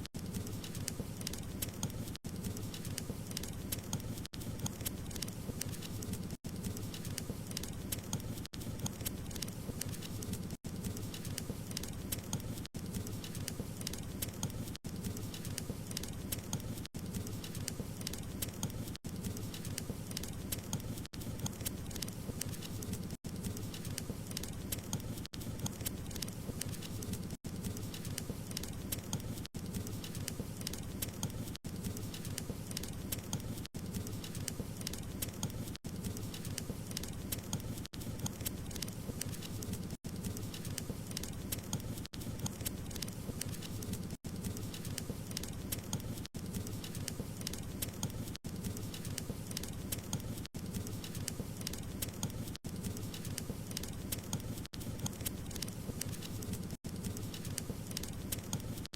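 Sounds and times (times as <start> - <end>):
wood fire burning in fireplace: 0.1 - 58.9.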